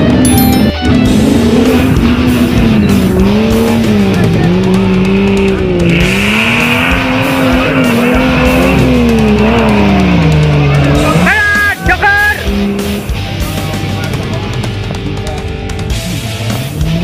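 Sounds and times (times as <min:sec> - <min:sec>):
background music: 0:00.0 - 0:17.0
engine revving: 0:00.8 - 0:17.0.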